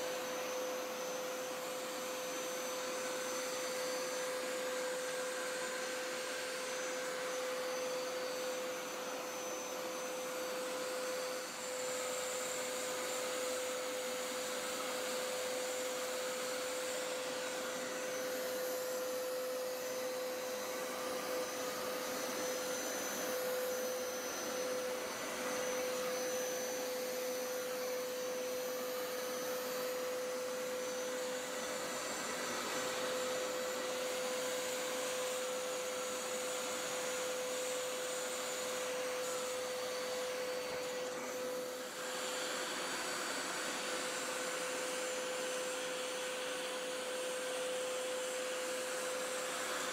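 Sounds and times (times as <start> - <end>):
carpet cleaner suction drone: 0.0 - 49.9.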